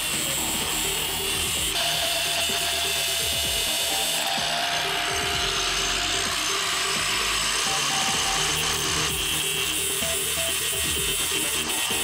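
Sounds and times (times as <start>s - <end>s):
angle grinder grinding steel: 0.0s - 12.0s
background music: 0.0s - 12.0s.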